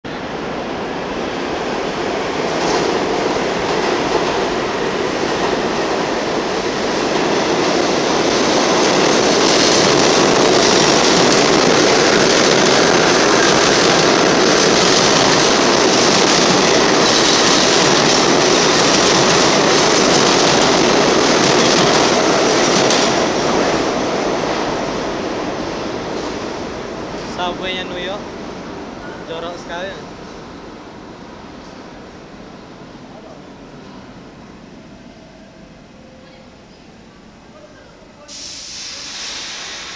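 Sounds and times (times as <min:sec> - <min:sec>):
subway train rumbling: 0:00.0 - 0:39.9.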